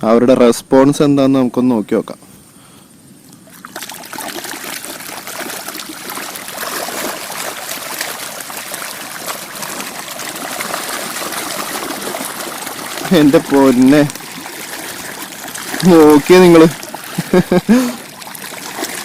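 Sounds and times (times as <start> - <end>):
fish splashing at water surface: 3.4 - 19.0.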